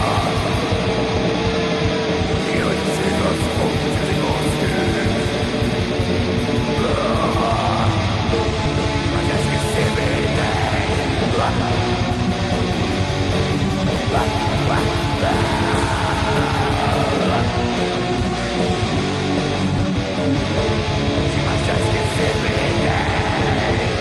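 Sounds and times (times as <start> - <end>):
distorted electric guitars: 0.0 - 24.0.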